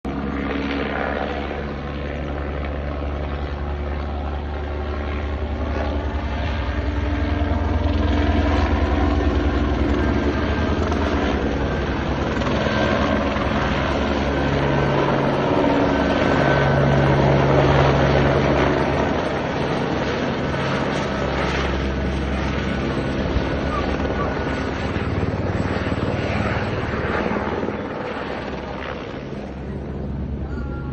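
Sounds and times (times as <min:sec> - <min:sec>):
helicopter engine and rotor hum: 0:00.0 - 0:30.9.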